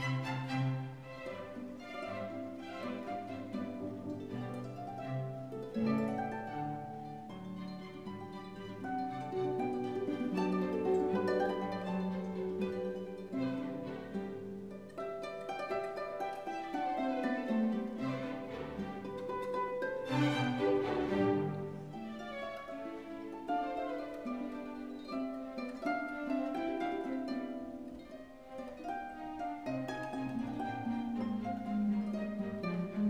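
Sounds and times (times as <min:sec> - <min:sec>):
instrumental string music: 0:00.0 - 0:33.0.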